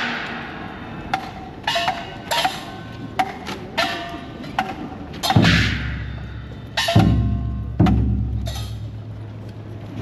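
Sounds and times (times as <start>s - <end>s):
percussion strikes with ringing tail: 0.0s - 9.2s.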